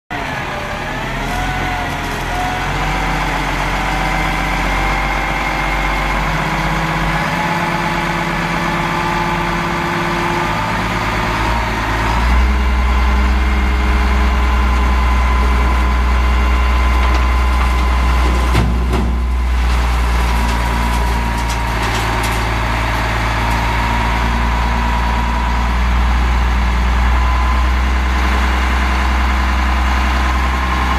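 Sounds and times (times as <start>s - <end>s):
diesel truck engine running: 0.1s - 30.9s.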